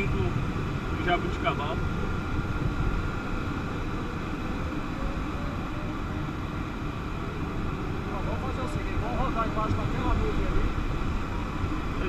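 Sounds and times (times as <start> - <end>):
airflow rushing around cockpit: 0.0 - 12.0.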